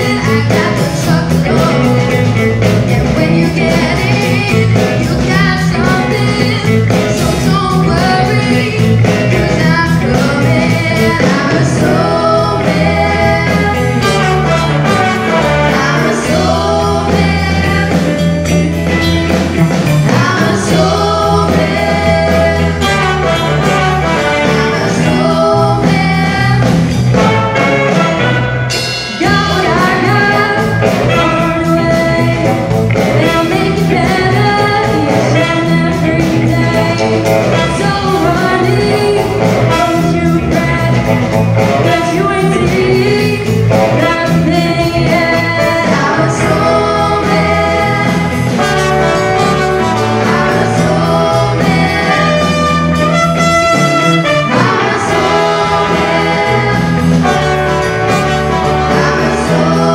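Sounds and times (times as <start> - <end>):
woman singing: 0.0 - 27.4, 29.1 - 59.9
rock band playing: 0.0 - 59.9.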